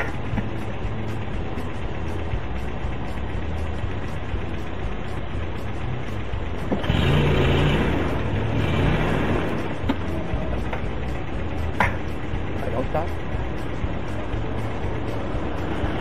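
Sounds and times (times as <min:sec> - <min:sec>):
car idling: 0:00.0 - 0:16.0.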